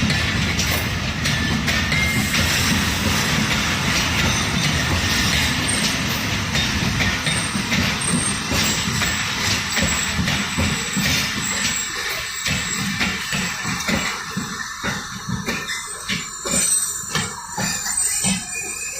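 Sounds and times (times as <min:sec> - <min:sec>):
train wheels rumbling: 0:00.0 - 0:18.9
wheels clacking over rail joints: 0:00.0 - 0:18.9.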